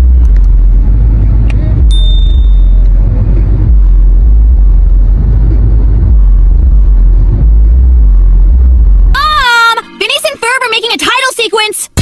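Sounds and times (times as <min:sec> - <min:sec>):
car interior road and engine rumble: 0:00.0 - 0:11.8.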